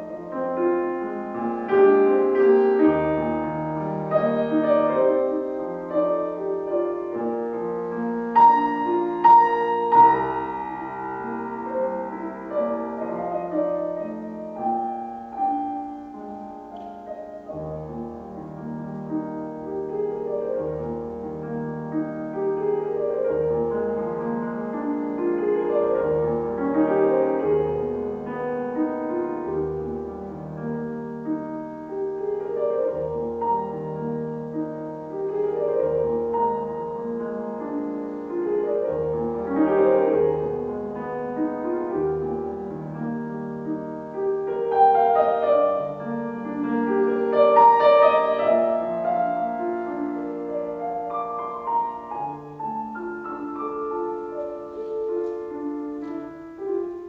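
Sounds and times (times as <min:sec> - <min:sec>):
solo grand piano: 0:00.0 - 0:57.0.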